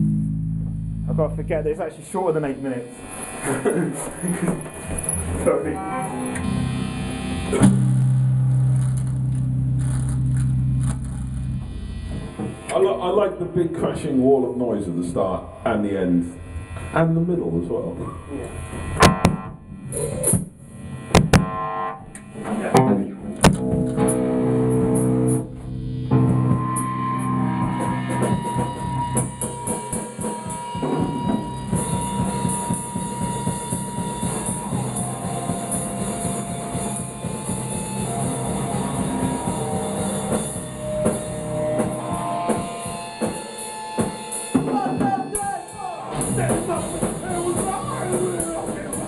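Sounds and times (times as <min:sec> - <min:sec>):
electric guitar: 0:00.0 - 0:01.5, 0:02.9 - 0:14.0, 0:17.8 - 0:49.0
drums: 0:00.0 - 0:15.7, 0:16.3 - 0:21.6, 0:22.4 - 0:49.0.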